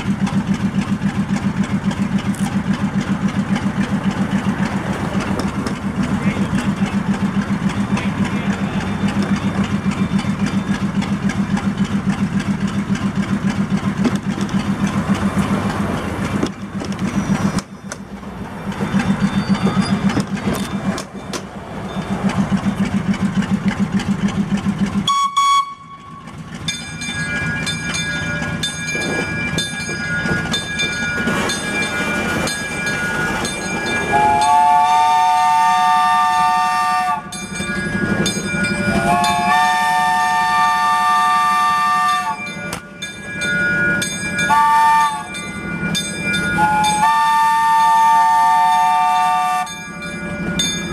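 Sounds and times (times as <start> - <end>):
locomotive engine running: 0.0 - 50.9
train wheels clicking on rails: 0.0 - 50.9.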